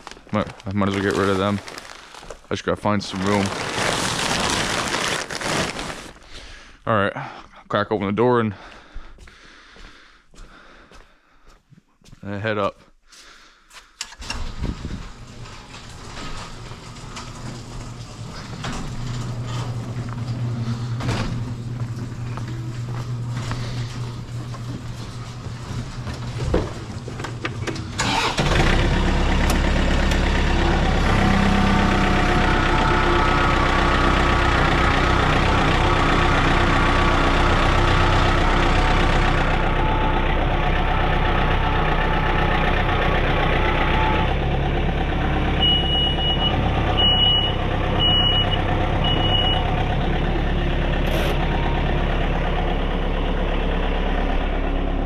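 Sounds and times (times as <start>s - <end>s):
diesel engine starting and running: 0.0s - 6.8s, 14.0s - 55.0s.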